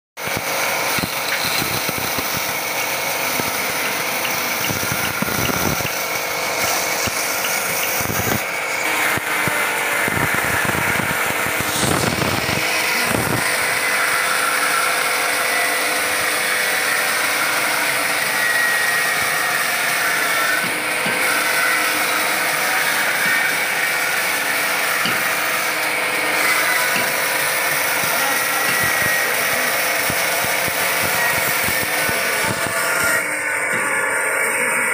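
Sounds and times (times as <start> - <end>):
band saw cutting wood: 0.2 - 34.9.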